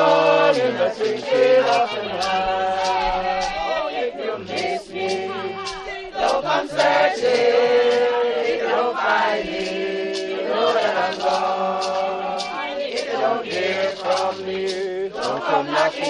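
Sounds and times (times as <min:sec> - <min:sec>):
crowd singing a hymn: 0:00.0 - 0:16.0.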